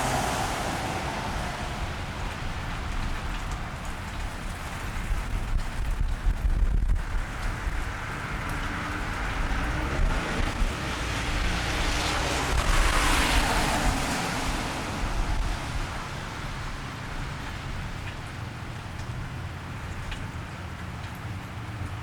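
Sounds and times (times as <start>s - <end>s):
car tyres hissing on wet street: 0.0s - 22.0s
steady rainfall: 0.0s - 22.0s.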